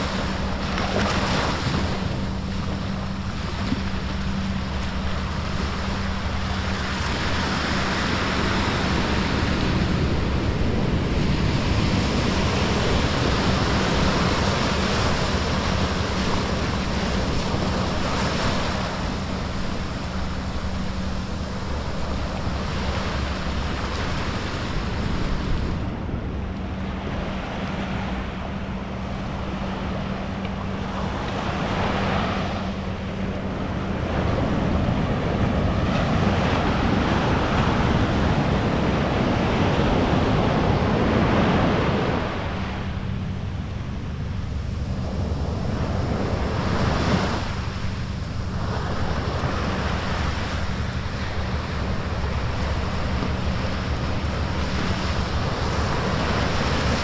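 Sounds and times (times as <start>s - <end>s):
surf breaking on a beach: 0.0s - 57.0s.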